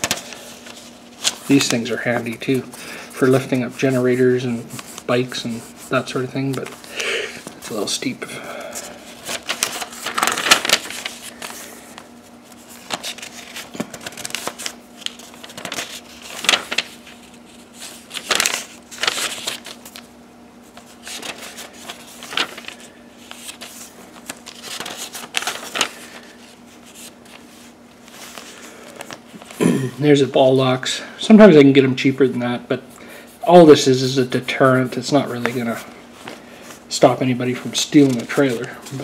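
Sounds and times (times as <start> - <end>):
paper pages rustling: 0.0 - 29.6, 33.2 - 39.0
faint steady hum: 0.0 - 39.0.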